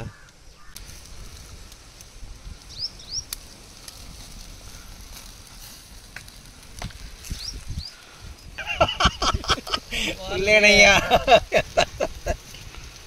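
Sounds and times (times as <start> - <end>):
sharp fire pops: 0.0 - 13.0
wood fire crackling: 0.0 - 13.0.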